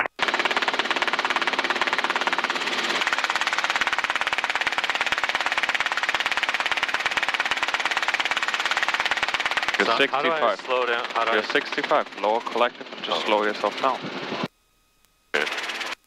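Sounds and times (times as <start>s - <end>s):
helicopter rotor pulsing: 0.0s - 14.5s, 15.4s - 16.0s.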